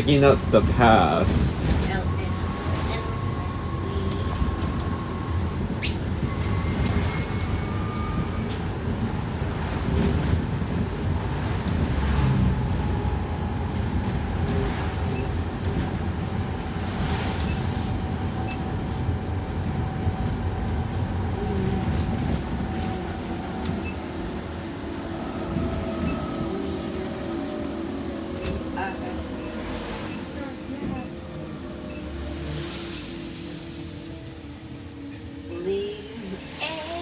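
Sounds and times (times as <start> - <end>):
bus rumbling along road: 0.0 - 37.0.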